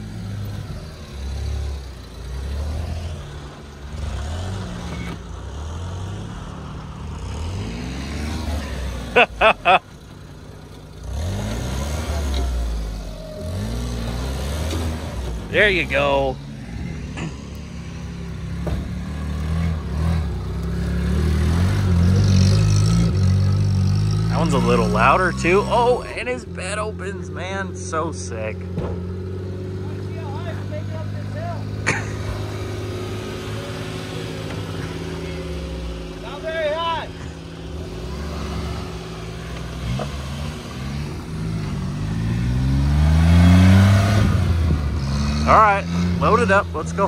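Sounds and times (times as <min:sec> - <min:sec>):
truck engine accelerating: 0:00.0 - 0:47.0.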